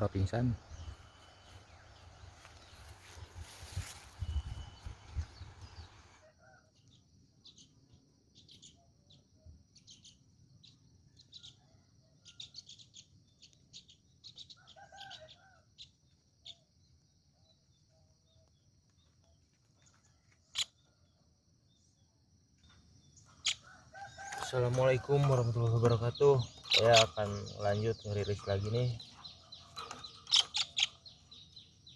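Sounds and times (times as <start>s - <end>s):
faint bird chirps: 0.0s - 31.9s.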